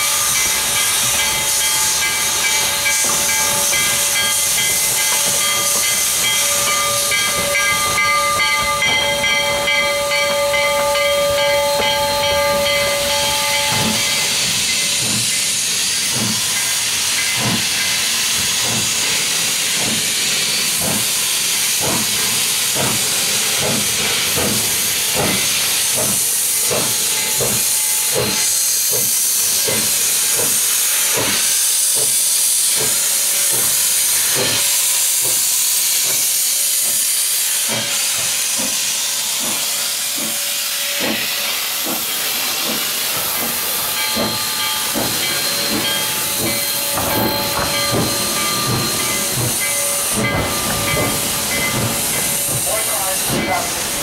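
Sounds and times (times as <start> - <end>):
steam hissing: 0.0 - 54.0
steam locomotive exhaust chuffs: 0.0 - 54.0.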